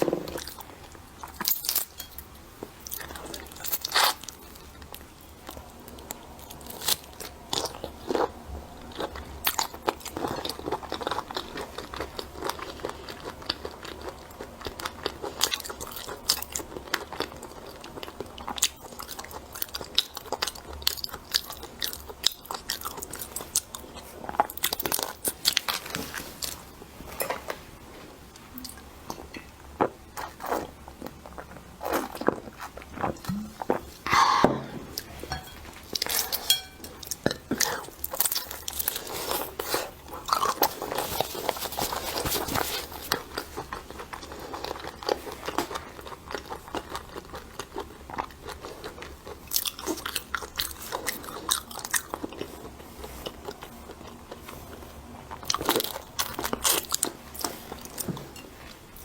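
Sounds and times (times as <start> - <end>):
crunching and chewing seafood: 0.0 - 34.0, 35.0 - 59.0.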